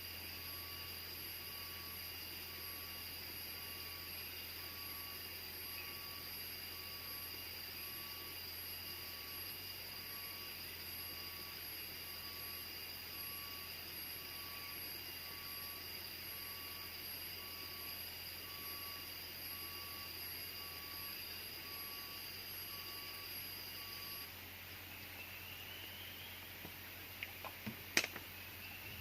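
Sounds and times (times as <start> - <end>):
insect pulsing call: 0.0 - 29.0
insects high-pitched trills: 0.0 - 29.0.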